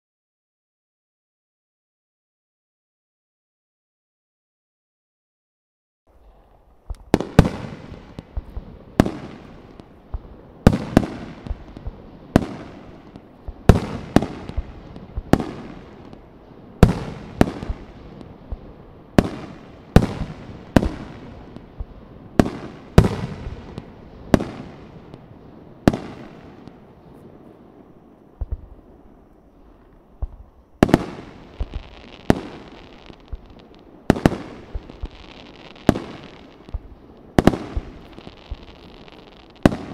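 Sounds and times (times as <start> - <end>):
fireworks bangs: 6.1 - 39.9.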